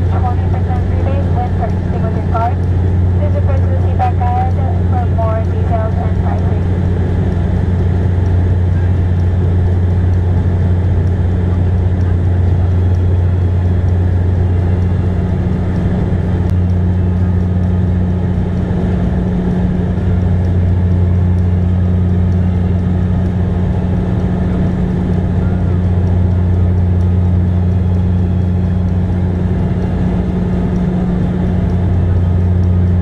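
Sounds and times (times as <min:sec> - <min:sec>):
propeller drone: 0:00.0 - 0:33.0.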